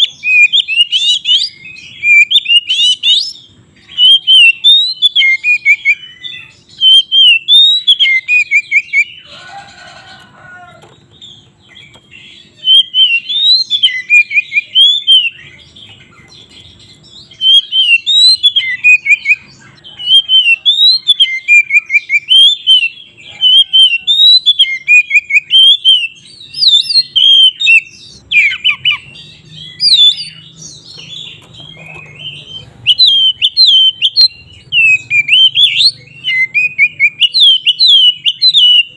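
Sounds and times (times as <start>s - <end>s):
bird singing whistled phrases: 0.0s - 9.2s, 12.4s - 38.9s.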